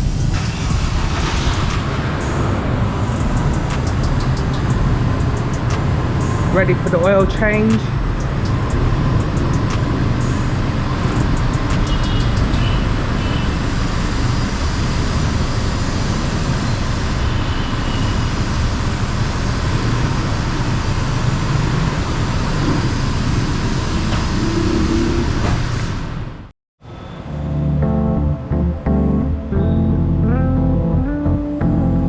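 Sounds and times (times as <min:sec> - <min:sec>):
road traffic noise: 0:00.0 - 0:28.6.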